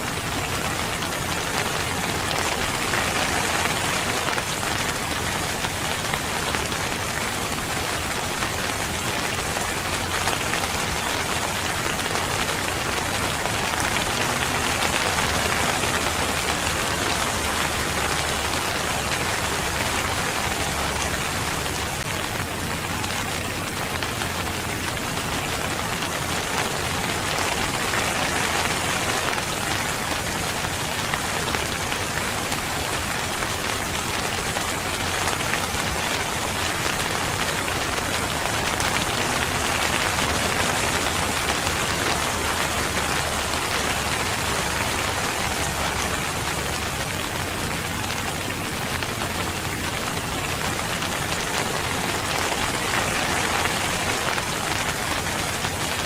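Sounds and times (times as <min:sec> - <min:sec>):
rain patter on surface: 0:00.0 - 0:56.0.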